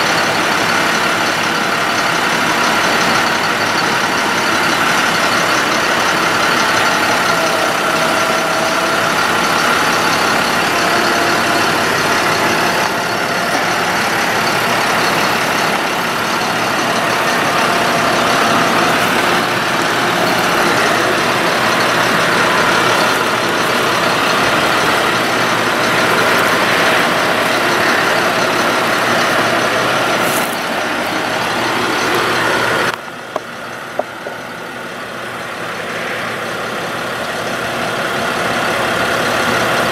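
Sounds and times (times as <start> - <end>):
steady high tone: 0.0 - 37.4
truck engine running: 0.0 - 39.9.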